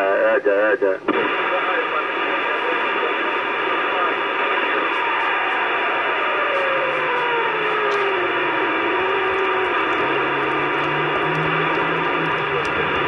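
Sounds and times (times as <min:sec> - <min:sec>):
radio receiver hiss: 0:00.0 - 0:13.0.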